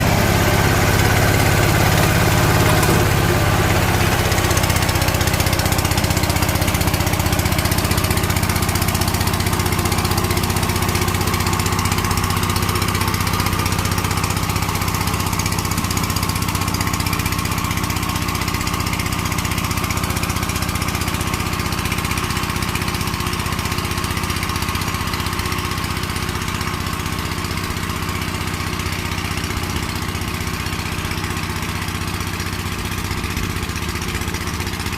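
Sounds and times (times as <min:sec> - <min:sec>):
power tiller engine running: 0:00.0 - 0:34.9.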